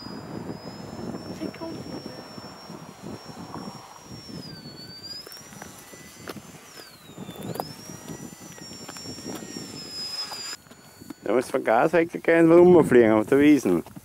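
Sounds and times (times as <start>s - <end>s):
model plane electric motor whine: 0.0s - 14.0s.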